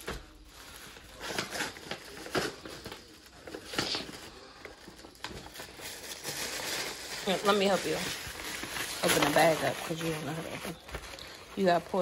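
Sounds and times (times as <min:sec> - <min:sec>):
tissue paper and foil bag crinkling: 0:00.0 - 0:12.0.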